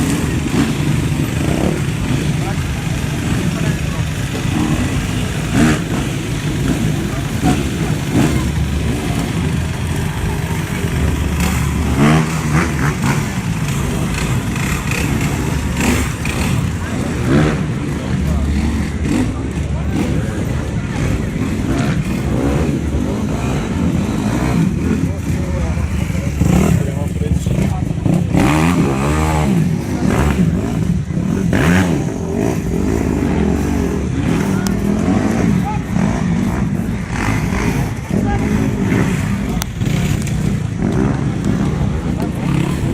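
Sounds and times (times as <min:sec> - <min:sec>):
motorcycle engines running: 0:00.0 - 0:42.9
motorcycle revving: 0:00.0 - 0:42.9.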